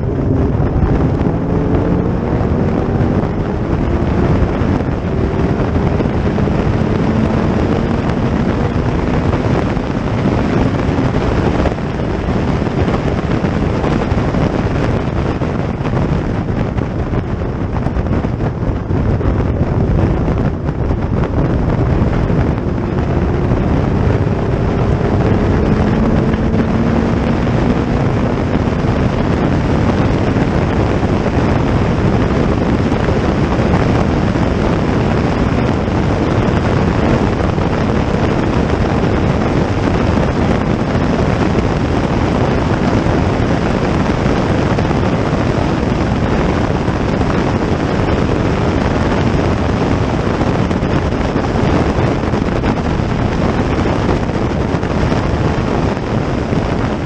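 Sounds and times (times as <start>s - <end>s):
racing car engine: 0.0s - 57.0s
wind rumble on microphone: 0.0s - 57.0s.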